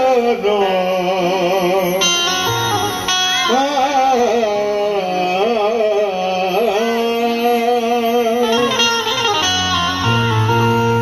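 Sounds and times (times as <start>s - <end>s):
wordless ornamented singing: 0.0s - 9.9s
harmonium chords: 0.0s - 11.0s.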